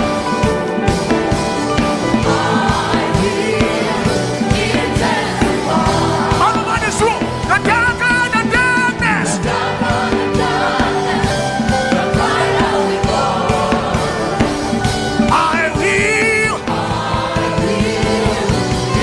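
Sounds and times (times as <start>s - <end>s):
band playing gospel music: 0.0s - 19.0s
person singing with vibrato: 2.4s - 19.0s.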